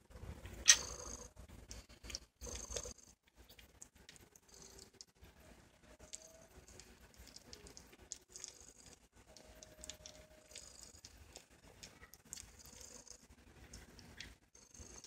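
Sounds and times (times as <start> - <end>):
kittens suckling: 0.4 - 5.3, 6.0 - 15.0.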